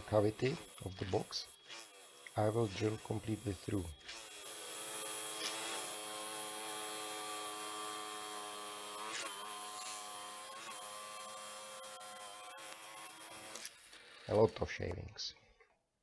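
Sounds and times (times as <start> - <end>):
drill press boring wood: 0.0 - 14.7.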